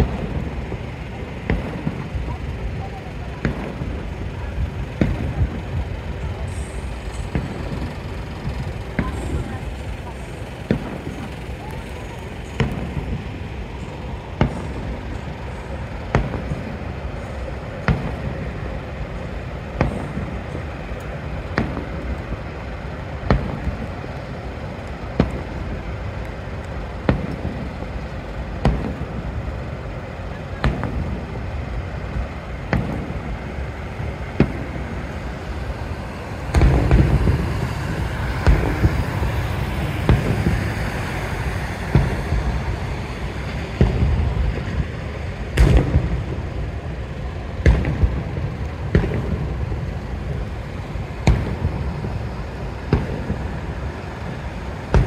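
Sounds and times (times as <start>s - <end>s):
distant fireworks bangs: 0.0s - 55.0s
steady low rumble: 0.0s - 55.0s.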